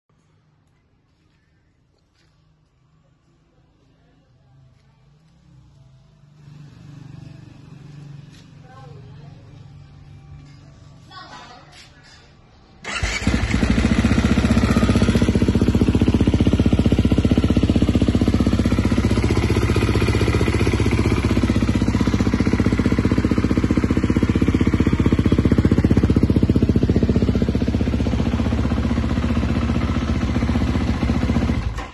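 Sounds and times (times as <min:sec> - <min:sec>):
motorcycle engine starting and idling: 0:05.1 - 0:11.1, 0:12.0 - 0:31.9.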